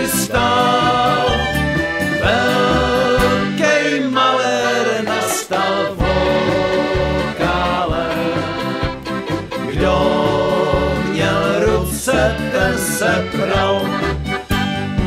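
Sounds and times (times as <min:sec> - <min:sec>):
dance band playing: 0:00.0 - 0:04.0, 0:05.0 - 0:15.0
accordion: 0:00.0 - 0:15.0.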